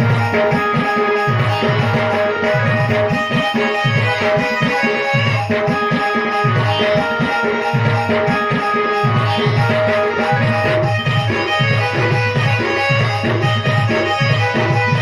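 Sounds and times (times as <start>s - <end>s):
hand drum pattern: 0.0s - 15.0s
sustained melody notes: 0.0s - 15.0s.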